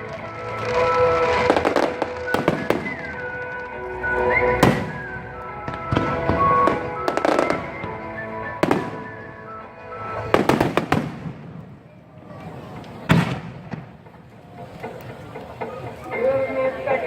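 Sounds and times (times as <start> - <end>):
music playing: 0.0 - 11.6, 14.0 - 17.0
fireworks bangs: 0.0 - 14.4
fireworks crackling: 0.0 - 17.0.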